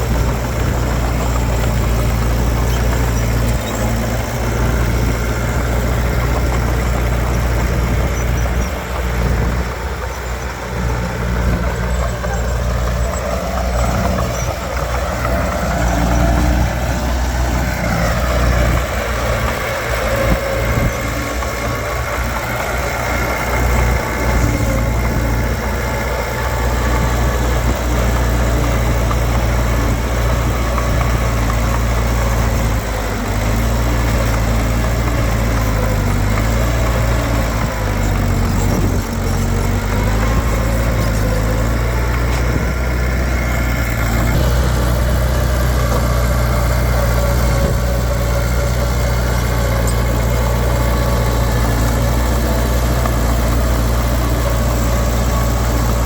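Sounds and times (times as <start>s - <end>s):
diesel machinery engine drone: 0.0s - 56.0s.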